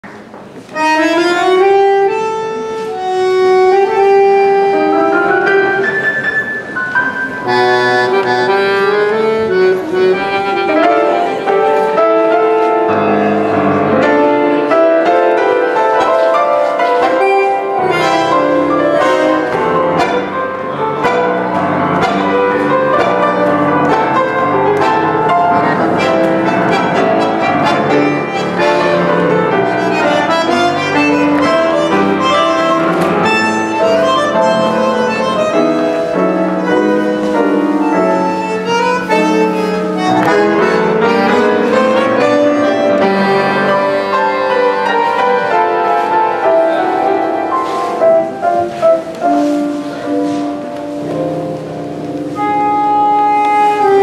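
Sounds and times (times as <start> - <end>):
bandoneon melody: 0.0 - 54.0
piano accompaniment: 0.0 - 54.0.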